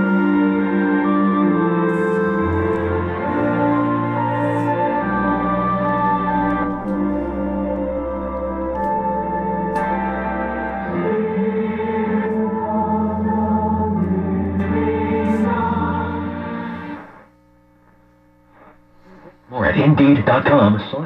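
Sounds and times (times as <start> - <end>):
music with singing from radio: 0.0 - 17.2.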